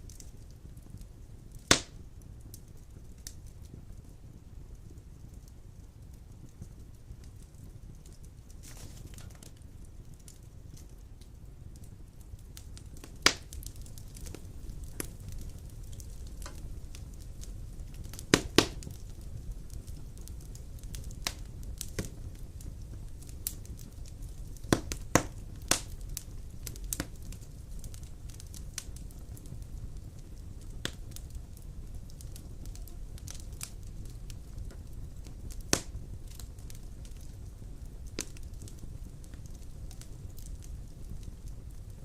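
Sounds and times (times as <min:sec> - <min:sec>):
low rumble of flame: 0:00.0 - 0:42.0
sharp pops of fire: 0:00.0 - 0:42.0
wood fire crackling: 0:00.0 - 0:42.0.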